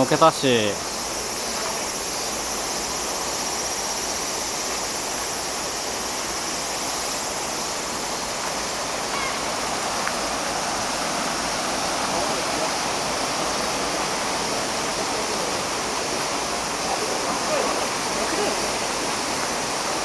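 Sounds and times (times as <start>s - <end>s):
river flowing over rocks: 0.2s - 20.0s.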